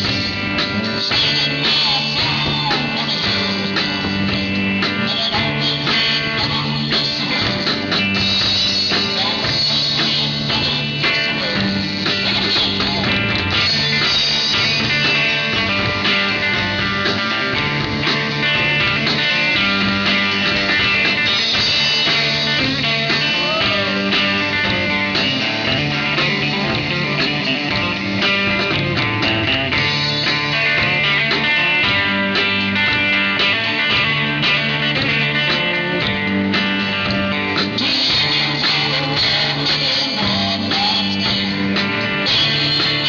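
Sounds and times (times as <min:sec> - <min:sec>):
guitar: 0:00.0 - 0:43.0
live country band playing: 0:00.0 - 0:43.0.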